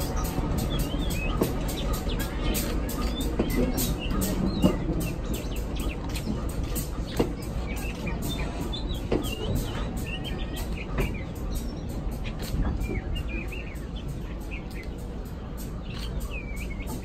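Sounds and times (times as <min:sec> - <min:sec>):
birds chirping: 0:00.0 - 0:17.0
train cars rolling past: 0:00.0 - 0:17.0.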